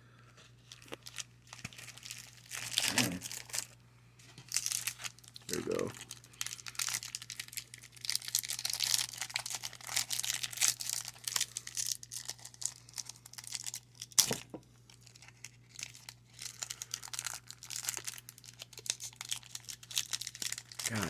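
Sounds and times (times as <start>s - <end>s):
wrapper crinkling and tearing: 0.6s - 3.8s, 4.4s - 21.0s.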